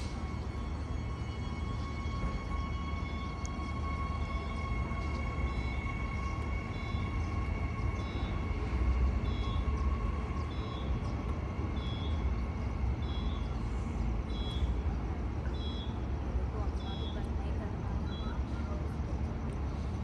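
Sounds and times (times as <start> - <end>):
two-tone hum: 0.0 - 16.2
electric train low rumble: 0.0 - 20.0.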